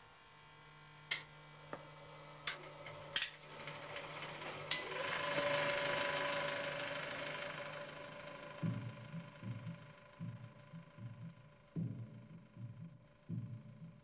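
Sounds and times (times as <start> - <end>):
film projector whirring clatter: 0.0 - 14.0.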